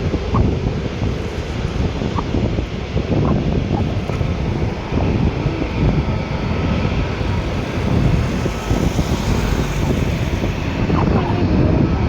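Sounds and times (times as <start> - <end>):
jet engines rumbling: 0.0 - 12.0
wind buffeting microphone: 0.0 - 12.0.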